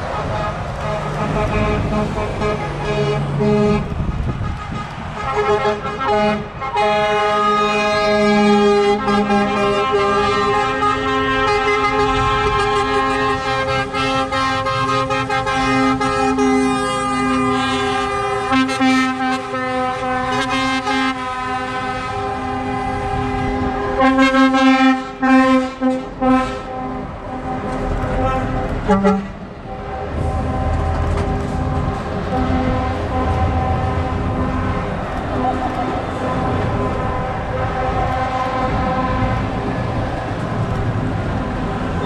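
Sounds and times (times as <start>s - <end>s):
truck diesel engines rumbling: 0.0s - 42.0s
lorry horn blasts: 0.1s - 39.7s.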